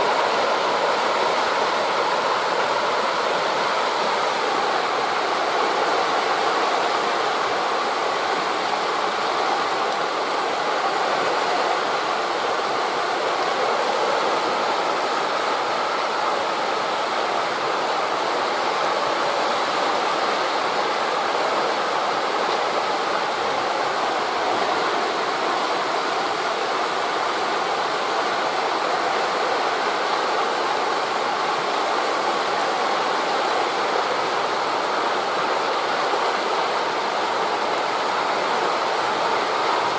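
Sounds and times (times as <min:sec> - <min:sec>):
distant sea waves: 0:00.0 - 0:39.9
wind through trees: 0:00.0 - 0:39.9.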